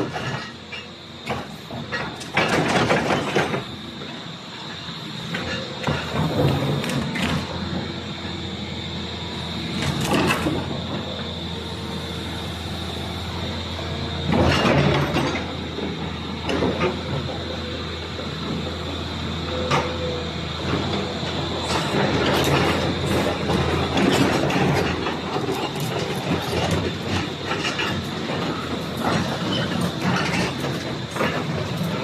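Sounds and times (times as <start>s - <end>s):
excavator engine hum: 0.0s - 32.0s.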